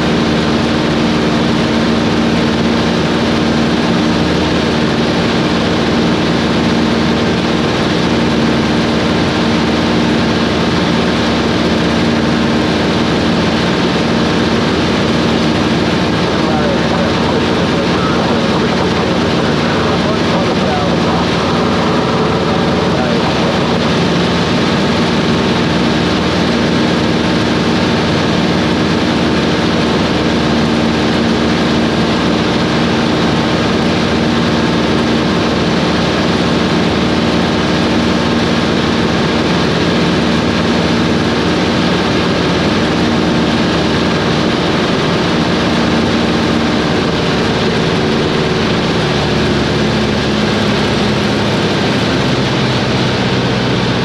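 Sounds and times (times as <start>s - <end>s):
small plane engine and propeller: 0.0s - 54.0s.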